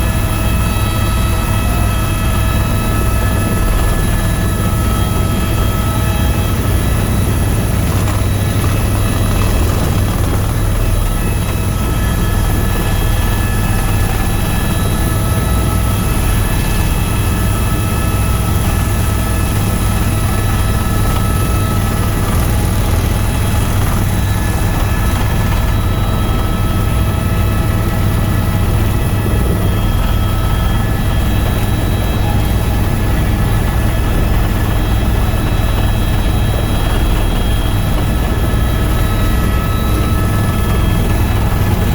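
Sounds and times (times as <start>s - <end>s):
helicopter rotor and engine drone: 0.0s - 41.9s
high steady whining tones: 0.0s - 41.9s.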